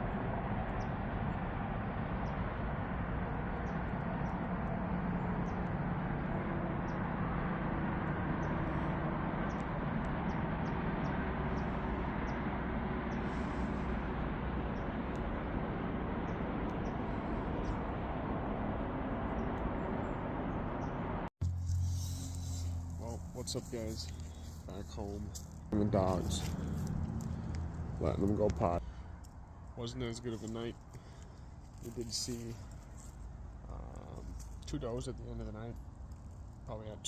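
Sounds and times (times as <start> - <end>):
outdoor background rush: 0.0 - 37.0.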